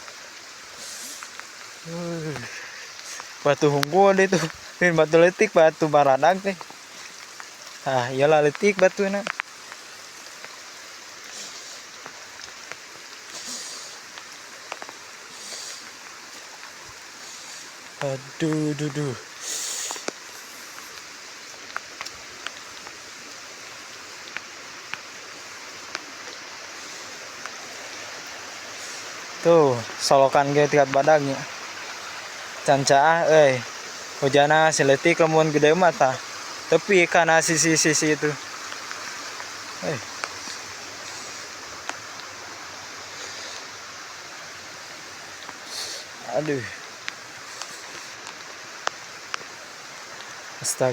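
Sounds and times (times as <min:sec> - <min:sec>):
large raindrop ticking: 0:00.0 - 0:50.9
rain hissing on garden: 0:00.0 - 0:50.9
runoff water flowing: 0:00.0 - 0:50.9.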